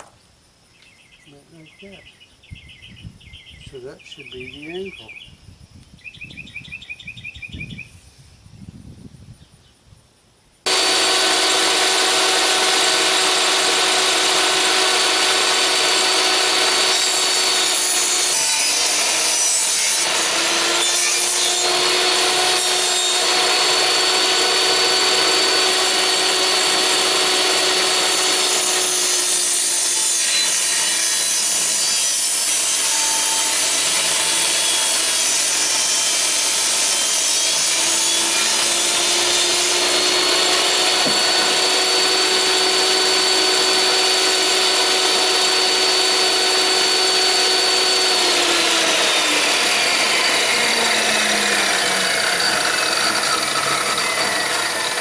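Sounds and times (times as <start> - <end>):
table saw cutting wood: 10.7 - 55.0.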